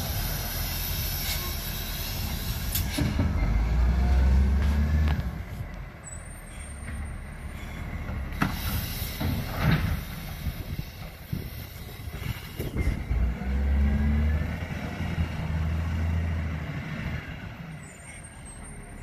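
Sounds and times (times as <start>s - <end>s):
truck diesel engine: 0.0s - 19.0s.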